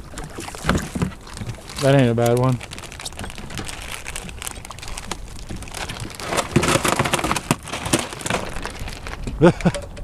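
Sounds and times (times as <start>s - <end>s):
fish thrashing on ice: 0.1s - 9.4s.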